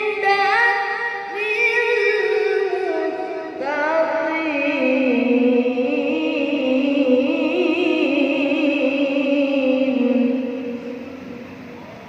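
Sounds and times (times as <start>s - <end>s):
boy reciting melodically: 0.0s - 11.1s.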